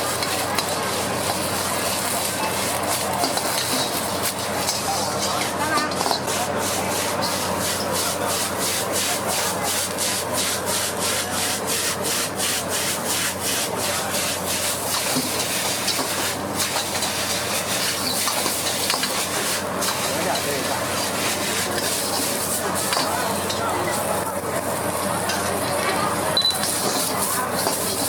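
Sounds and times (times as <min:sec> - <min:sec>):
metal spatula scraping wok: 0:00.0 - 0:24.0, 0:26.4 - 0:28.0
wok sizzling: 0:00.0 - 0:28.0.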